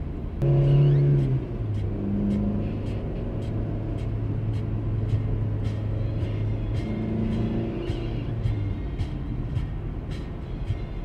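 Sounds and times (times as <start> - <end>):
car cabin engine and road rumble: 0.0 - 11.0
low droning tone: 0.4 - 11.0.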